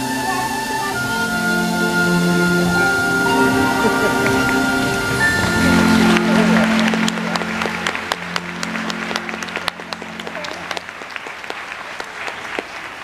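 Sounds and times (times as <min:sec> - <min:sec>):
held chord of show music: 0:00.0 - 0:11.2
audience applauding: 0:00.0 - 0:13.0.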